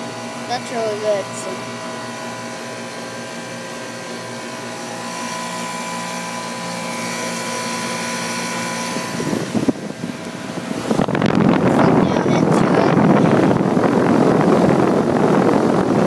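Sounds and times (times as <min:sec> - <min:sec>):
compressor humming: 0:00.0 - 0:16.0
condenser fan whoosh: 0:00.0 - 0:16.0.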